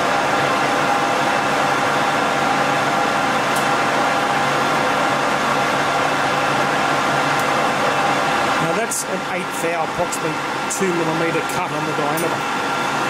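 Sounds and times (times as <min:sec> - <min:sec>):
lathe hum and gear whine: 0:00.0 - 0:13.0.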